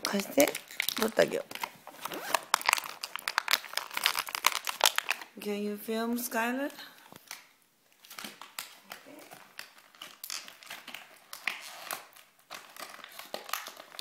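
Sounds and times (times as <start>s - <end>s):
paper crinkling and rustling: 0.0s - 5.3s, 8.0s - 14.0s.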